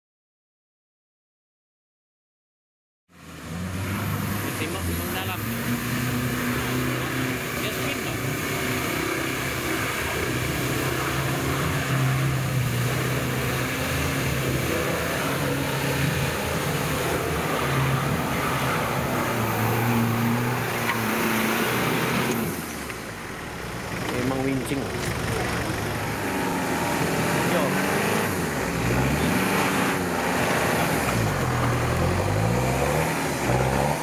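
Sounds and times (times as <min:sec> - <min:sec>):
truck engine revving: 0:03.2 - 0:34.0.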